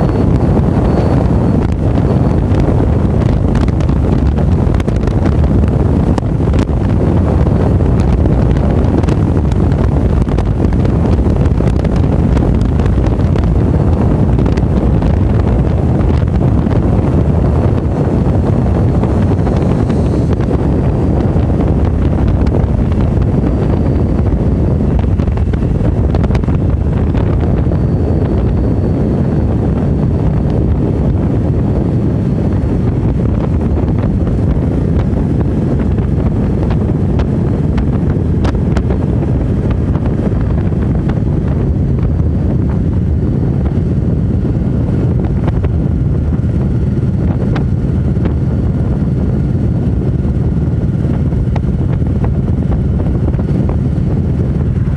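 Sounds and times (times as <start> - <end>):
motorcycle running: 0.0 - 54.9
wind rush on microphone: 0.0 - 54.9.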